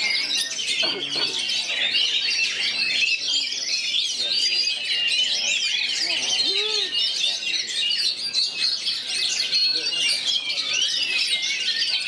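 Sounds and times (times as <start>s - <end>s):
birds singing in chorus: 0.0s - 12.0s.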